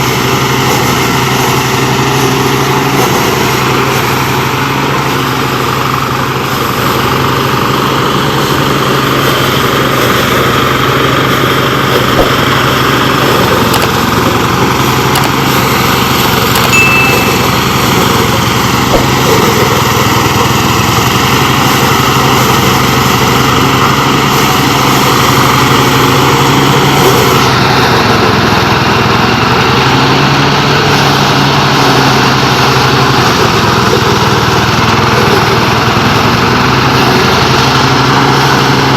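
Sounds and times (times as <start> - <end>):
harvesting machine engine running: 0.0 - 38.9.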